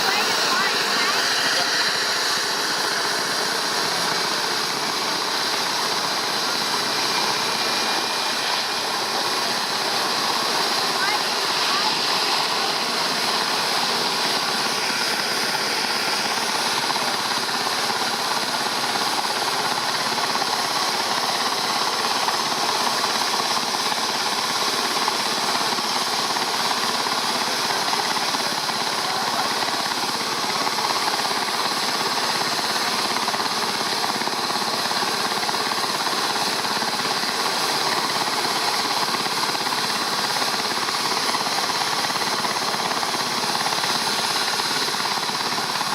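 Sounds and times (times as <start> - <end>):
helicopter rotor chop: 0.0 - 45.9
high turbine whine: 0.0 - 45.9.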